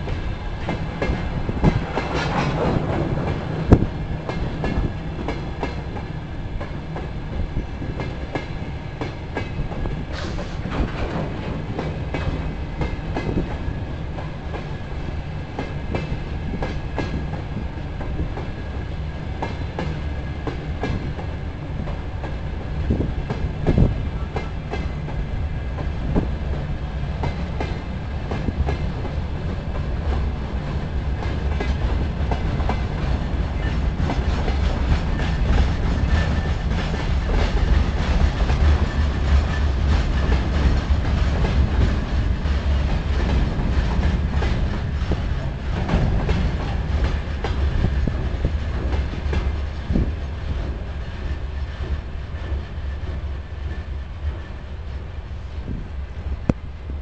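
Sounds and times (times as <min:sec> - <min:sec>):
freight train wheels clattering: 0:00.0 - 0:56.6.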